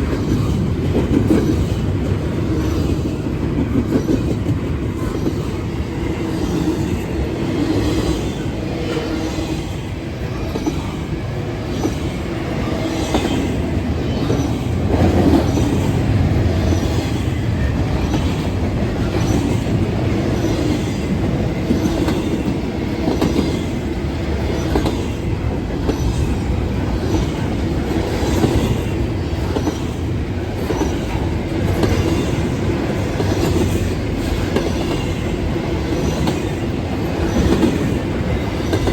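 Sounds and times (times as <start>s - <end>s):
freight train wheels clacking: 0.0s - 38.9s.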